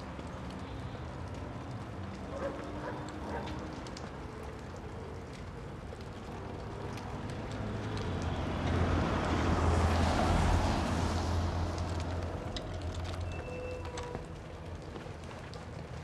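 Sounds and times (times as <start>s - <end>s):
low rumbling hiss of rain: 0.0s - 16.0s
rain drops ticking: 0.0s - 16.0s.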